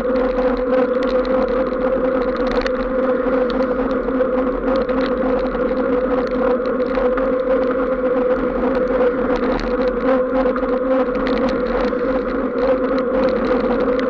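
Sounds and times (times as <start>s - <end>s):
fine crackle of ticks: 0.0s - 14.0s
vehicle humming on wet road: 0.0s - 14.0s.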